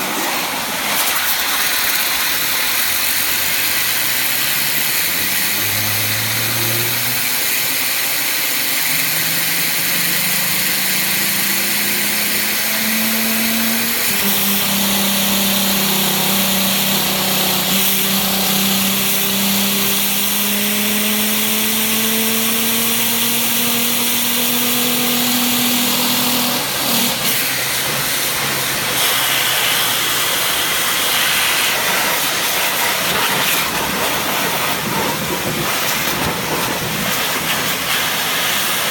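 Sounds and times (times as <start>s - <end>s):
pressure washer spray hiss: 0.0s - 38.9s
spinning tyre engine-like tone: 1.4s - 38.9s.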